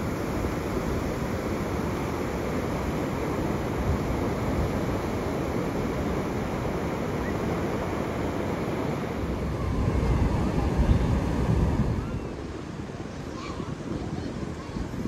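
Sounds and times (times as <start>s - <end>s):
surf breaking on sand: 0.0s - 15.0s
wind buffeting microphone: 0.0s - 15.0s.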